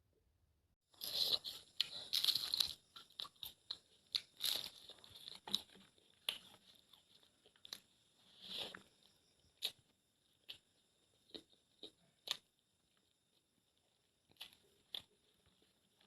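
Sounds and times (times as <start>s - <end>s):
crunchy chewing: 0.9s - 16.0s.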